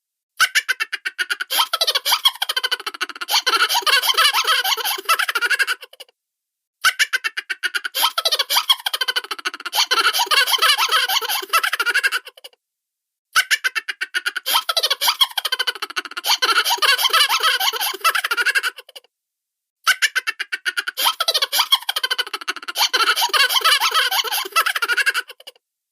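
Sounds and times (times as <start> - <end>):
cartoon laughter: 0.4 - 6.1, 6.8 - 12.6, 13.4 - 19.1, 19.9 - 25.6.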